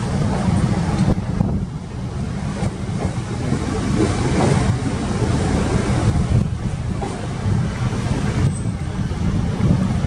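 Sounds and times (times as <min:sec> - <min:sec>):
train coaches rumbling past: 0:00.0 - 0:10.0
wind buffeting the microphone: 0:00.0 - 0:10.0.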